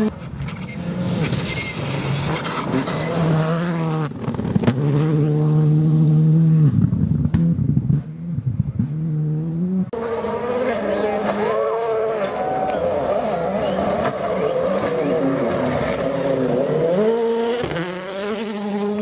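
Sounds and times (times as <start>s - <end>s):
rally car engine high revs: 0.0s - 19.0s.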